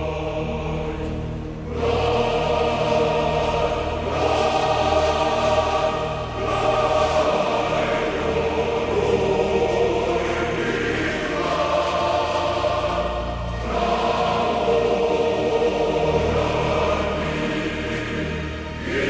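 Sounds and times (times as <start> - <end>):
choir singing slow chords: 0.0 - 19.0.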